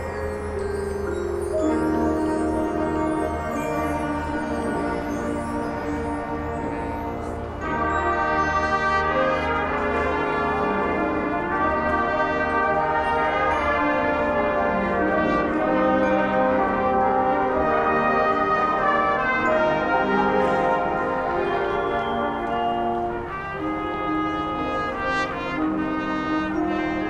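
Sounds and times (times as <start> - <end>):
brass band playing held chords: 0.0 - 27.0.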